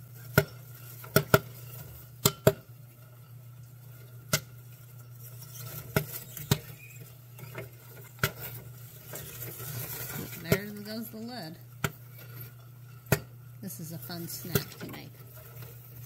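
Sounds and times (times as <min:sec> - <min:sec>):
low machine hum: 0:00.0 - 0:16.0
popcorn popping: 0:00.0 - 0:16.0.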